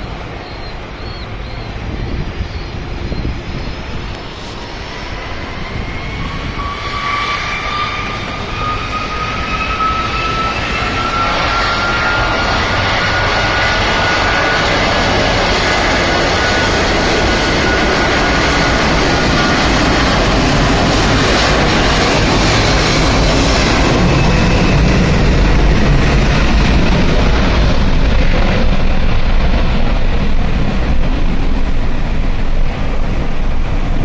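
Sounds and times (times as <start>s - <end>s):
jet engine whine: 0.0s - 34.0s
jet engines spooling up: 0.0s - 34.0s.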